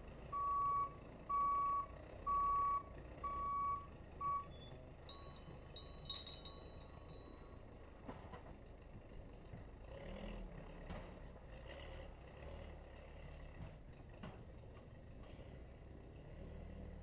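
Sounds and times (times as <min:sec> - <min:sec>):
backhoe engine under load: 0:00.0 - 0:17.0.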